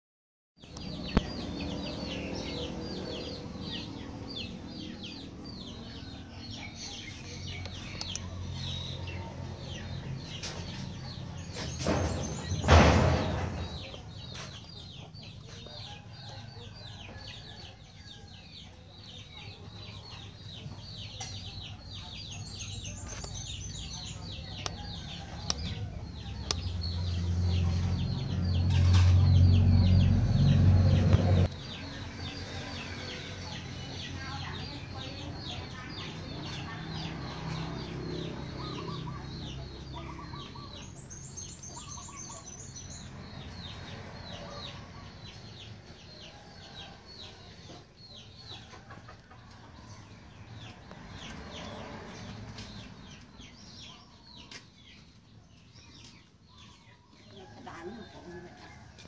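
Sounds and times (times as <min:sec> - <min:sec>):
birds chirping: 0:00.6 - 0:59.0.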